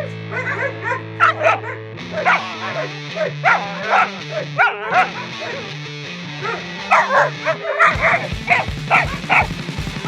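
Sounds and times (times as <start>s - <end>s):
dog barking sharply: 0.0s - 5.8s, 6.4s - 9.6s
background music: 0.0s - 10.0s.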